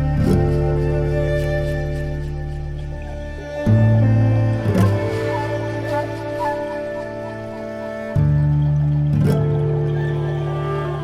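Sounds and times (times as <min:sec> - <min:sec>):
soft sustained chords: 0:00.0 - 0:11.0.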